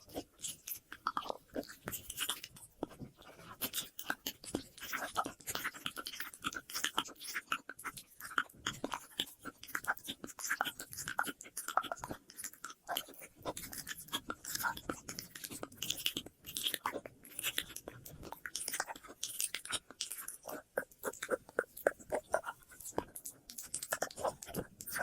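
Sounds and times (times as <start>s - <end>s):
wet mouth clicks and smacks: 0.1s - 25.0s.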